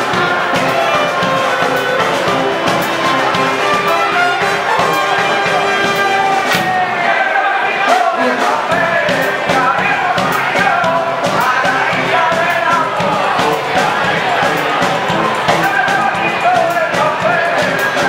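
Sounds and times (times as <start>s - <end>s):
steady drum beat: 0.0s - 7.2s, 7.8s - 18.0s
brass band playing: 0.0s - 18.0s.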